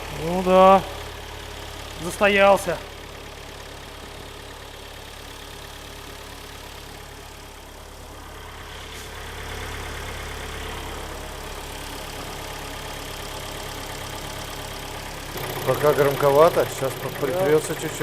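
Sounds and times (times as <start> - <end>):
car engine idling harshly: 0.0 - 18.0.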